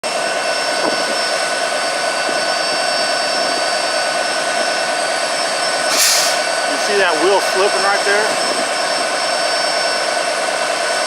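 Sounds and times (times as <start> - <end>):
diesel locomotive engine: 0.0 - 11.0
high steady whines: 0.0 - 11.0.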